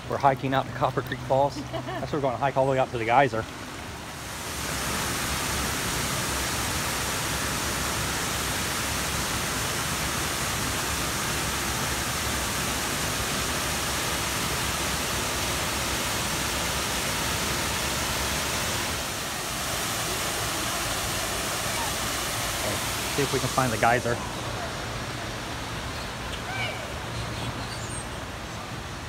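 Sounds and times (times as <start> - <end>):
small waterfall rushing over rocks: 0.0 - 29.0.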